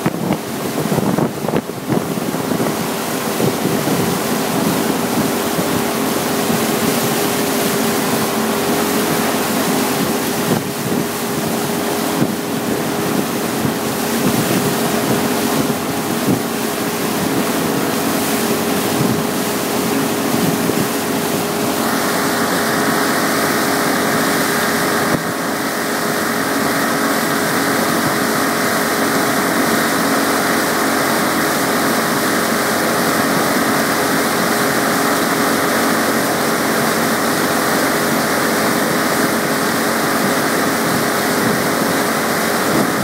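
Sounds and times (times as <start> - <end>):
wind on microphone: 0.0 - 8.2, 9.0 - 43.0
boat engine running: 0.0 - 43.0
churning wake: 0.0 - 43.0.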